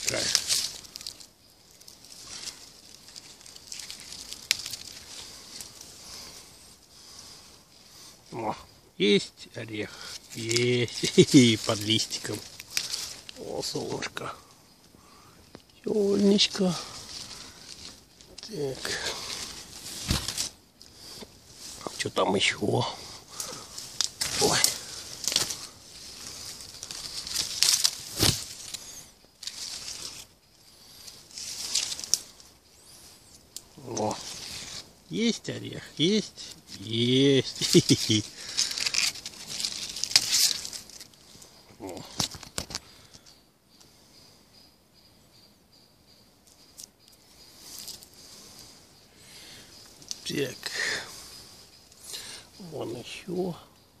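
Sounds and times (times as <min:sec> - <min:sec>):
leaves and twigs rustling: 0:00.0 - 0:54.0.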